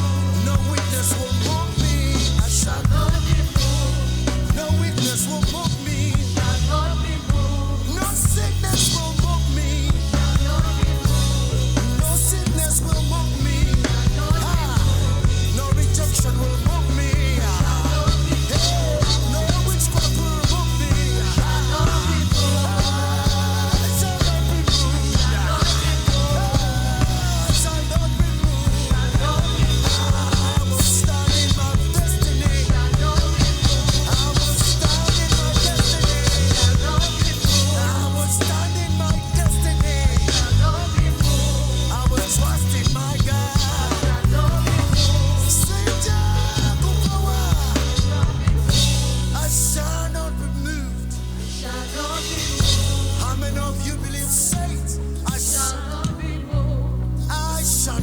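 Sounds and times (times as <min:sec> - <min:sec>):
drum kit cymbals and hits: 0:00.0 - 0:49.7
live band playing: 0:00.0 - 0:56.4
heavy bass notes: 0:00.0 - 0:58.0.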